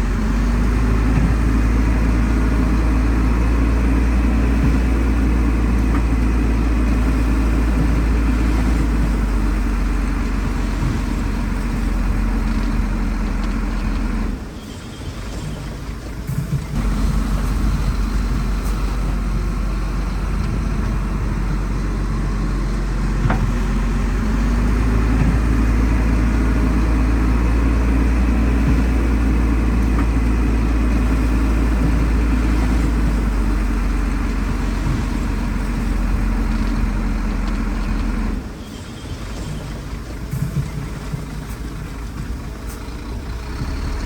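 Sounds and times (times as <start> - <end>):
heavy diesel engine under load: 0.0 - 44.0.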